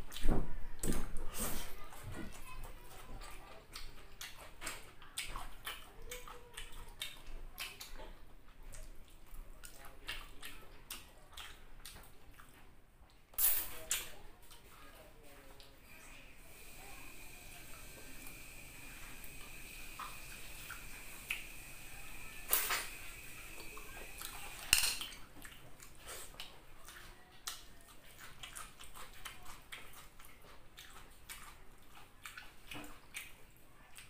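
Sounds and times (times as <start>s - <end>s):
person chewing wetly: 2.9s - 13.2s, 16.5s - 34.0s.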